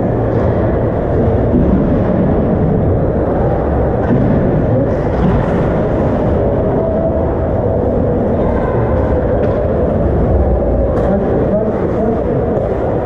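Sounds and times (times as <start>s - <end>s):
ice rink rumbling background noise: 0.0s - 13.0s.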